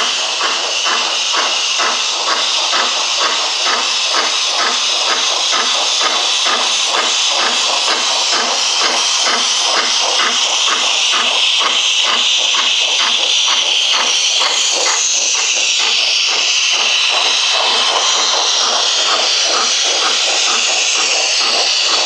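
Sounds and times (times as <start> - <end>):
model steam locomotive chuffing: 0.0 - 22.0
steam hiss: 0.0 - 22.0.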